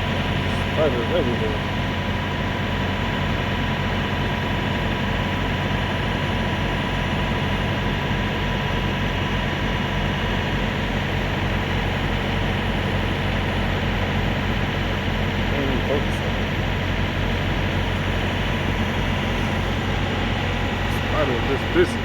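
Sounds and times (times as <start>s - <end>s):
diesel engine idling: 0.0s - 22.0s
faint steady whine: 0.0s - 22.0s.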